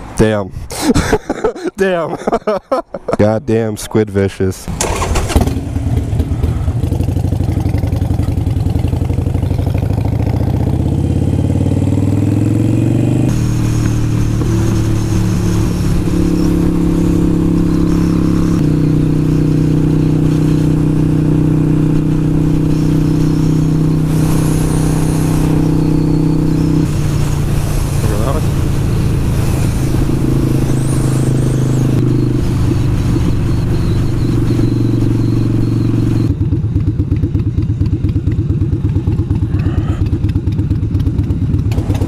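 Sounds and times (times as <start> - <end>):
motorcycle engine accelerating: 4.7 - 42.0.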